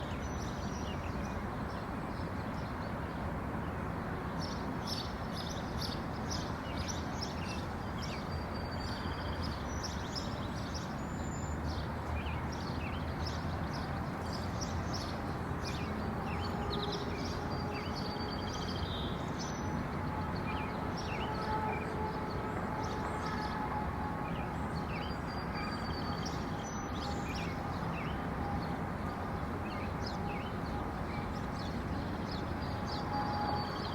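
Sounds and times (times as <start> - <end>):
low rumble of distant traffic: 0.0 - 33.9.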